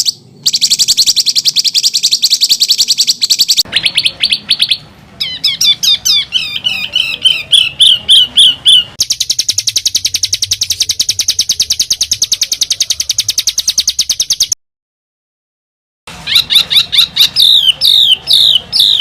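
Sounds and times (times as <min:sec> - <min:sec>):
fast high bird trill: 0:00.0 - 0:14.6, 0:16.1 - 0:19.0
songbird singing harsh notes: 0:00.0 - 0:14.6, 0:16.1 - 0:19.0.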